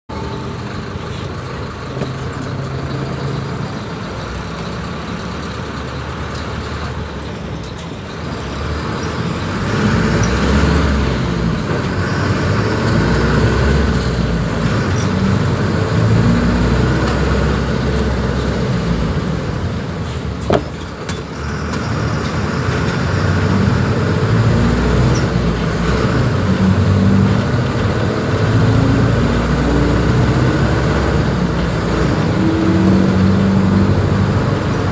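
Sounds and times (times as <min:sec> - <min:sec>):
bus diesel engine running: 0:00.1 - 0:34.9.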